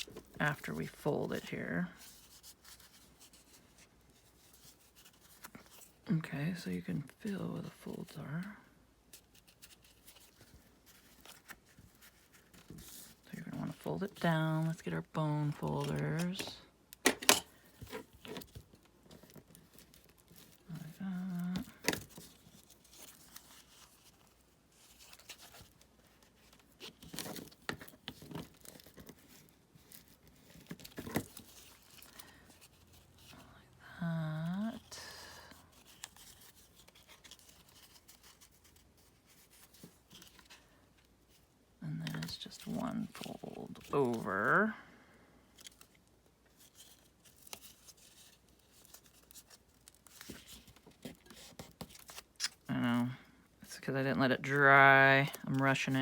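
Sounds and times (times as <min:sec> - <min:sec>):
paper rustling and scraping: 0:00.0 - 0:08.4, 0:09.1 - 0:16.6, 0:17.3 - 0:33.4, 0:34.4 - 0:44.8, 0:45.5 - 0:52.7.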